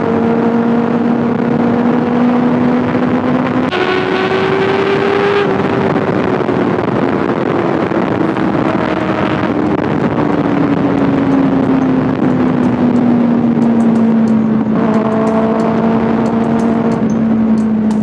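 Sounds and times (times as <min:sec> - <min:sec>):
motorcycle engine running: 0:00.0 - 0:18.0
wind rush on microphone: 0:00.0 - 0:18.0.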